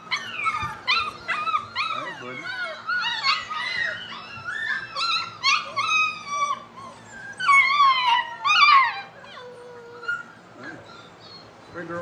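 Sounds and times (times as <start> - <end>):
puppies whining and howling: 0.0 - 12.0.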